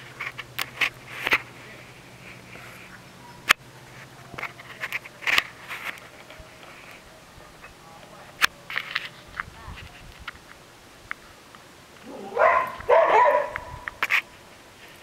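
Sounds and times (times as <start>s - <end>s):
crackling rustles: 0.0s - 15.0s.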